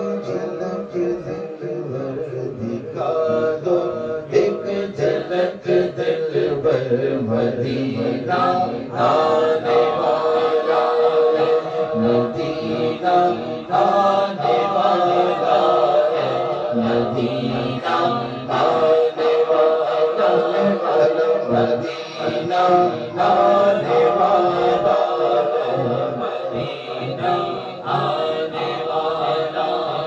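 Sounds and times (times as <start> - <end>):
men singing into microphones: 0.0 - 30.0.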